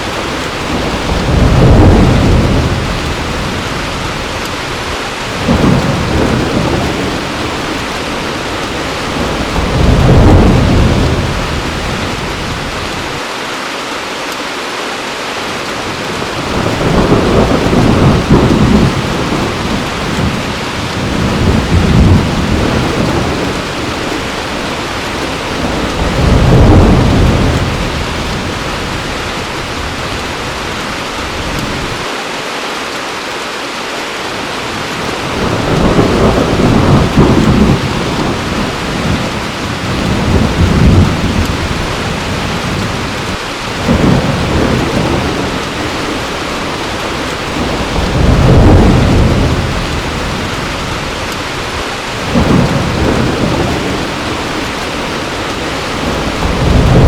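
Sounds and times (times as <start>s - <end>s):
thunder rolling: 0.0s - 13.2s, 16.1s - 32.0s, 34.8s - 57.0s
heavy rain falling: 0.0s - 57.0s.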